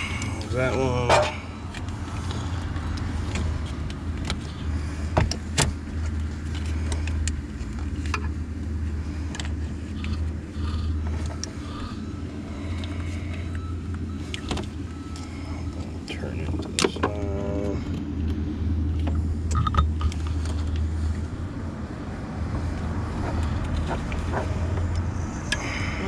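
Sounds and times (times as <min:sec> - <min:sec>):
hoses and wiring clicking: 0:00.0 - 0:11.6, 0:12.8 - 0:21.3, 0:22.5 - 0:25.7
steady low rumble: 0:00.0 - 0:26.0.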